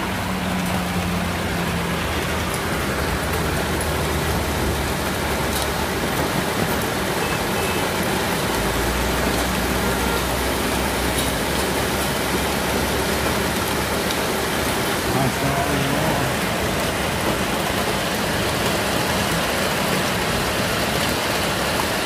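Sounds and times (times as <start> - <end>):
cars rumbling on wet road: 0.0 - 22.0
heavy rain and hail on street: 0.0 - 22.0.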